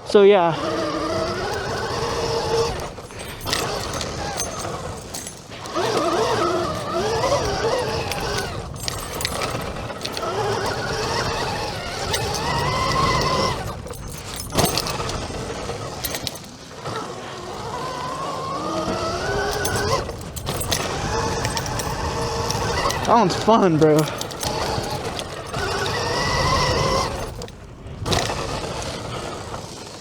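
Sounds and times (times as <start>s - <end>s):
electric dirt bike motors whining: 0.0s - 30.0s
tyre and wind noise: 0.2s - 30.0s.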